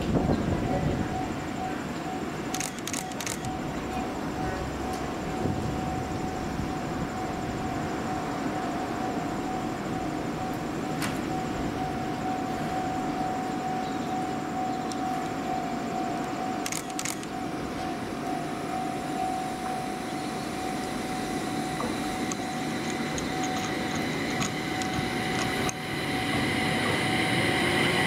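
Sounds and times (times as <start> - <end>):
electric train equipment humming: 0.0 - 28.0
high whine: 0.0 - 28.0.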